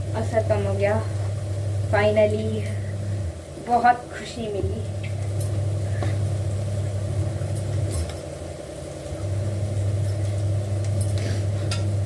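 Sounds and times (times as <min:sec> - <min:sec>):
low mechanical motor hum: 0:00.0 - 0:12.0.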